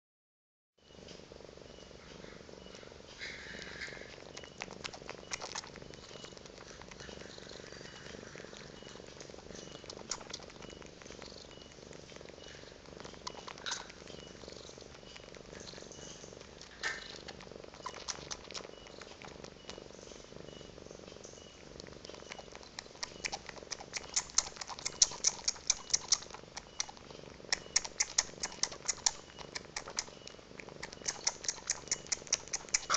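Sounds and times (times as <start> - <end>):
cat purring: 0.8 - 32.9
kitten wet sucking clicks: 3.5 - 19.8, 21.8 - 32.9.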